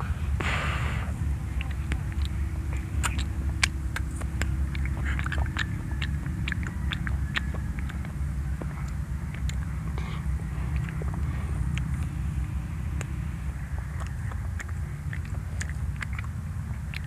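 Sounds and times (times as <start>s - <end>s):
children chewing berries: 0.0s - 17.0s
steady low hum: 0.0s - 17.0s.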